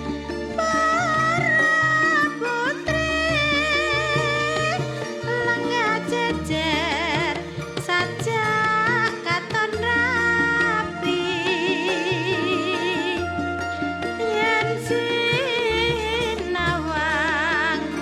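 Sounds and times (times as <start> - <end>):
bass line: 0.0 - 18.0
wavering vibrato melody: 0.0 - 18.0.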